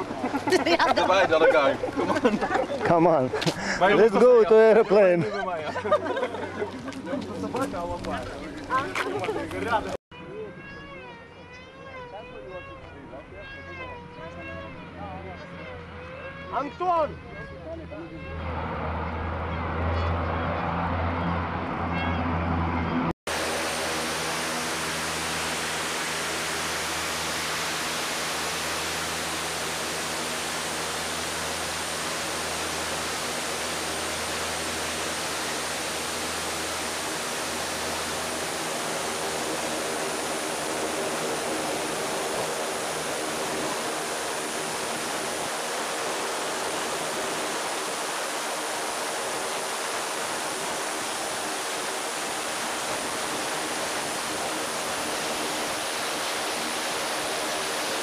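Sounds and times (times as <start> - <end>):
aircraft engines running: 0.0 - 58.0.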